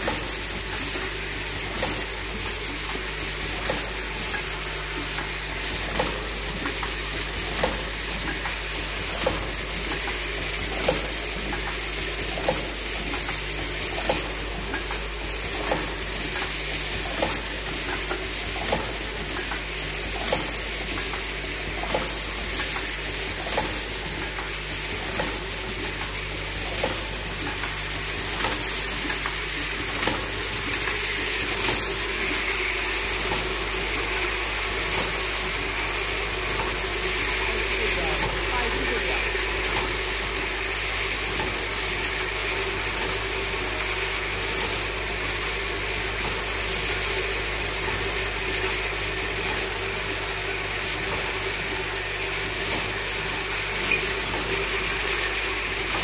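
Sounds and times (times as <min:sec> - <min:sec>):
machine hissing: 0:00.0 - 0:56.0.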